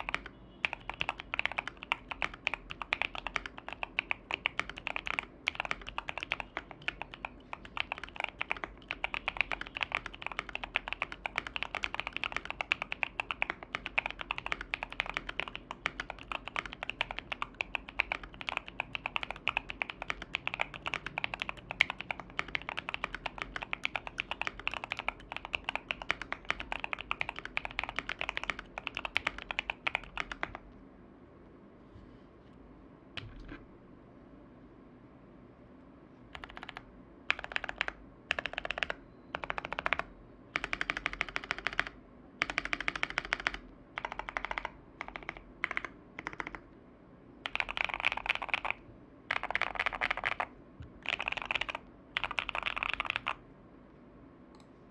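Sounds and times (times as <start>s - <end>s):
mechanical keyboard typing: 0.0s - 30.6s, 36.3s - 46.6s, 47.4s - 53.4s.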